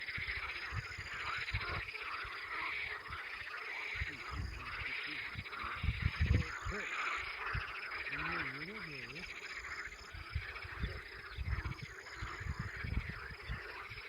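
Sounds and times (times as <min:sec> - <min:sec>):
frogs croaking: 0:00.0 - 0:14.0.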